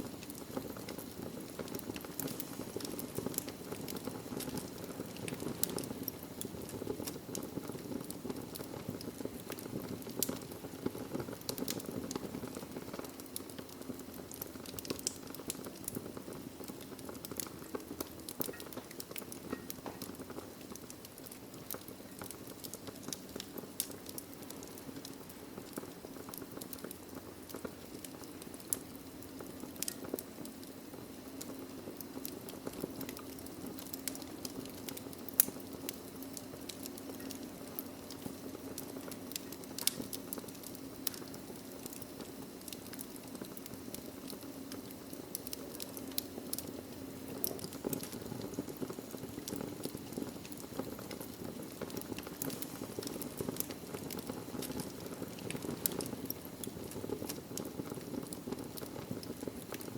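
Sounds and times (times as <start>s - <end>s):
fire crackles and pops: 0.0s - 59.9s
fire flames rustling: 0.0s - 59.9s.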